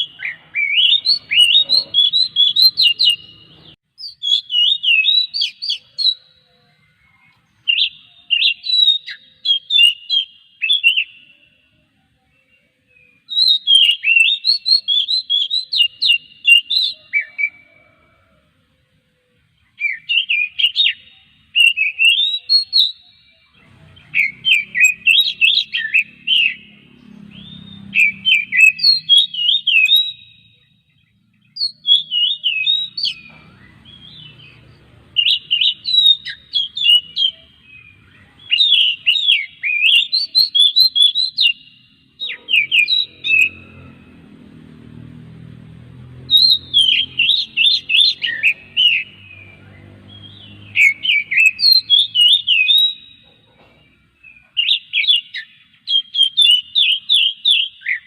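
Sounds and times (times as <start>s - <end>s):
bird singing whistled notes: 0.0s - 18.3s, 19.4s - 44.2s, 46.1s - 58.0s.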